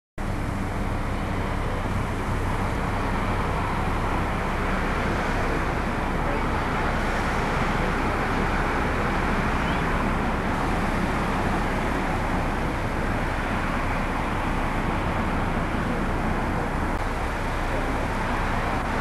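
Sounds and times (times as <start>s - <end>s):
cars passing: 0.2s - 19.0s.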